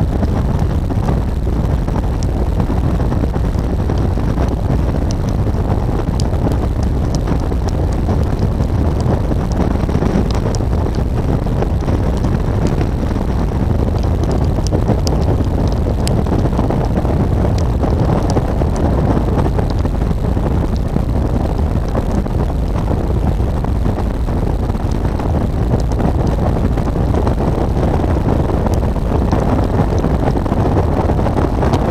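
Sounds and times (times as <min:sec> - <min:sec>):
wind rush on microphone: 0:00.0 - 0:31.9.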